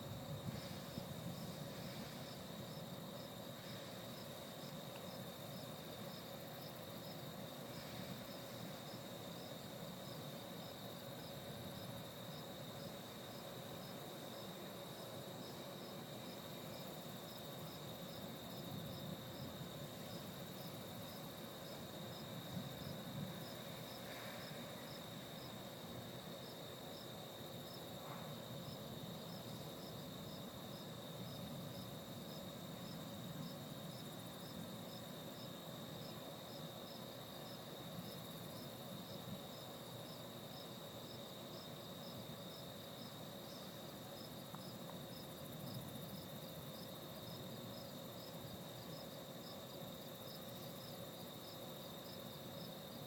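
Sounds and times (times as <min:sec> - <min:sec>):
insect chirping: 0:00.0 - 0:53.0
insects trilling: 0:00.0 - 0:53.0.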